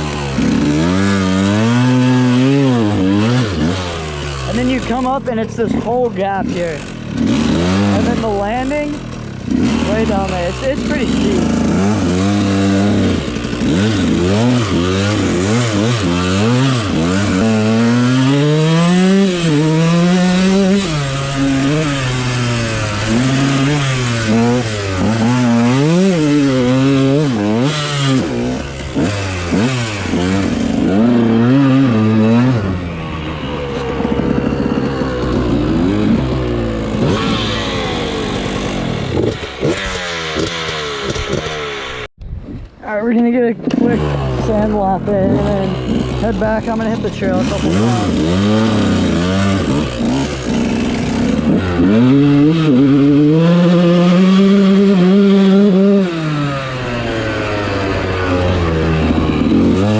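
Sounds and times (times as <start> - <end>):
dirt bike engine revving: 0.0 - 42.1, 42.9 - 59.9.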